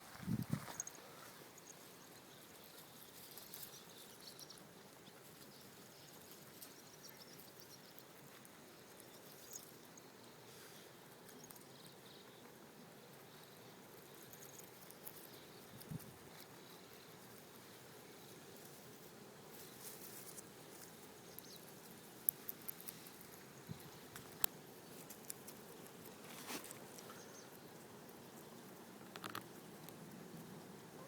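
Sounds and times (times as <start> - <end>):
rustles: 0.0 - 31.0.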